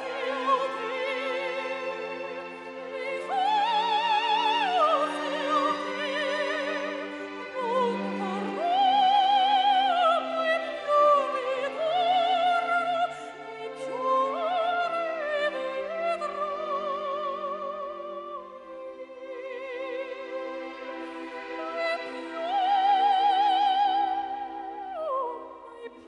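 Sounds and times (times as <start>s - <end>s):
orchestral accompaniment: 0.0s - 26.0s
soprano operatic singing: 0.0s - 26.0s.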